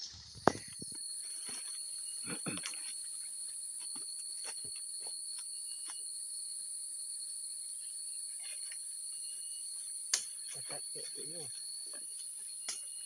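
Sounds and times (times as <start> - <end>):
insects buzzing: 0.0 - 13.0
thin steady whine: 0.0 - 13.0.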